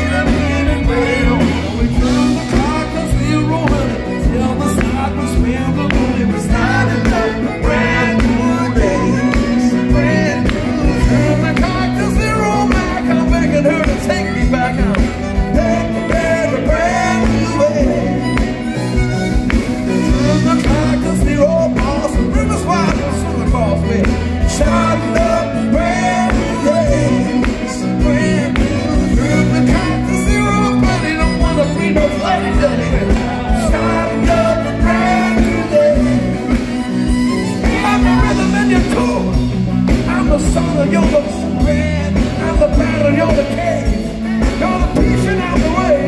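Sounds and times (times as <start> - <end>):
drums: 0.0 - 46.0
electric bass: 0.0 - 46.0
live pop-rock band playing: 0.0 - 46.0
wavering melodic lead line: 0.0 - 46.0.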